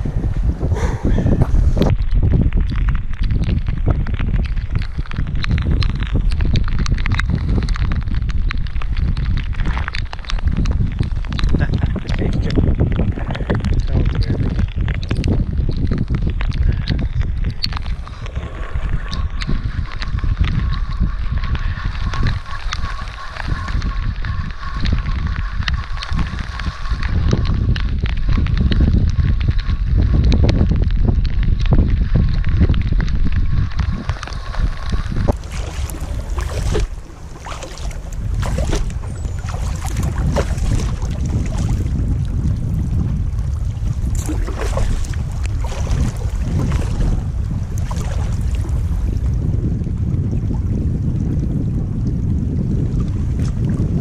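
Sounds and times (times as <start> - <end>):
wind buffeting microphone: 0.0 - 54.0
water sloshing against kayak: 4.1 - 29.8, 31.4 - 49.5.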